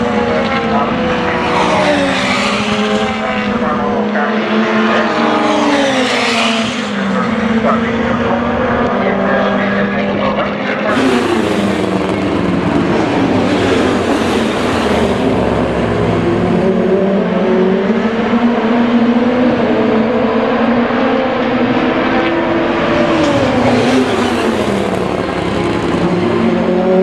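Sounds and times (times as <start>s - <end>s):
racing car engines passing: 0.0s - 27.0s.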